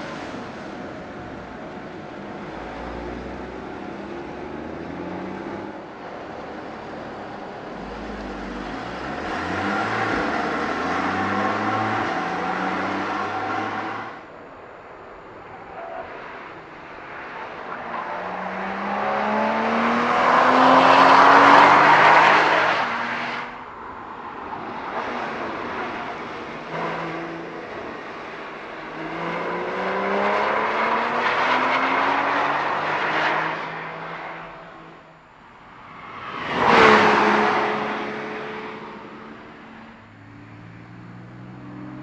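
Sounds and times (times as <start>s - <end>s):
car engines accelerating past: 2.4s - 14.3s, 16.2s - 23.7s, 24.6s - 34.9s, 35.8s - 42.0s.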